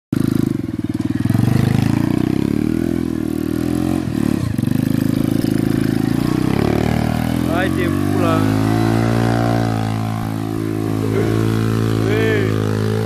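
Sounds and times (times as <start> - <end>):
small engine revving: 0.2 - 13.0.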